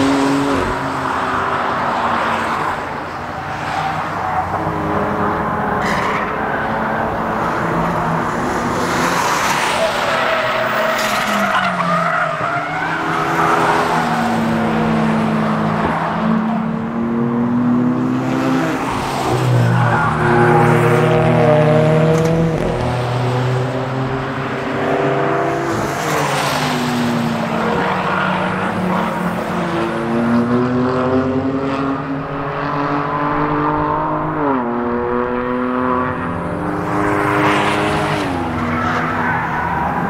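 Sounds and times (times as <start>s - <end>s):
car engines braking and accelerating: 0.0s - 40.0s.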